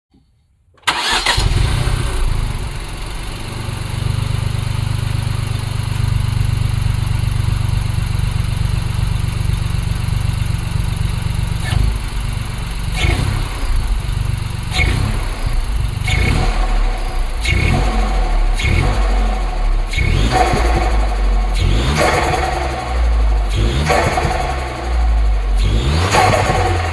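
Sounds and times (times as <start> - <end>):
car engine starting and idling: 0.8 - 26.9
engine revving blips: 0.9 - 6.0, 10.4 - 26.9.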